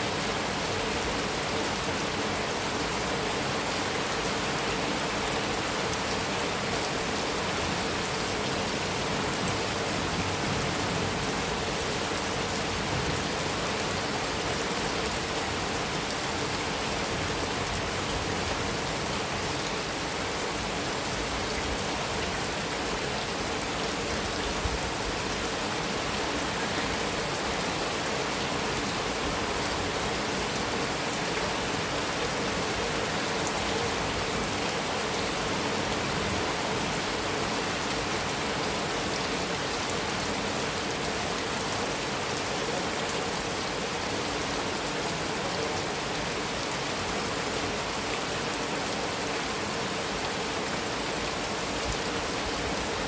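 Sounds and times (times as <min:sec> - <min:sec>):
heavy rain on a metal roof: 0:00.0 - 0:53.0.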